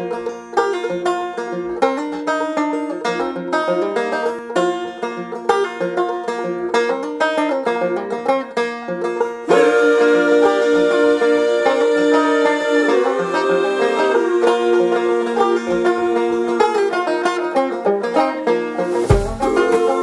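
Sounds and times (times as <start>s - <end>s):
banjo-led country tune: 0.0s - 20.0s.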